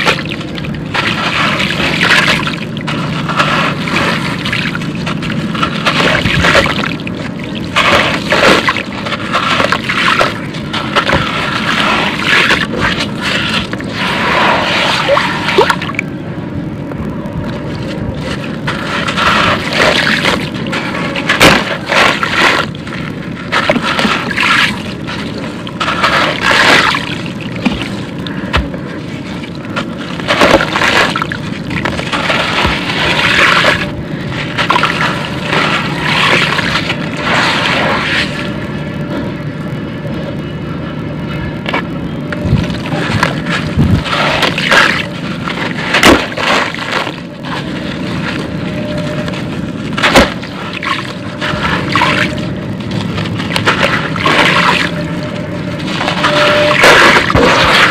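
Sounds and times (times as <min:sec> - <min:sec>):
water splashing and trickling: 0:00.0 - 0:16.0, 0:17.7 - 0:38.5, 0:42.5 - 0:57.9
wet concrete crunching: 0:00.0 - 0:16.2, 0:17.0 - 0:39.6, 0:41.6 - 0:57.9.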